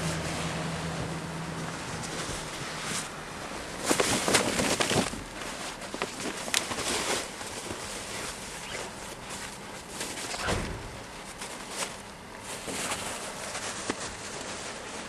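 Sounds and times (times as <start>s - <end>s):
bags rustling: 0.0s - 15.0s.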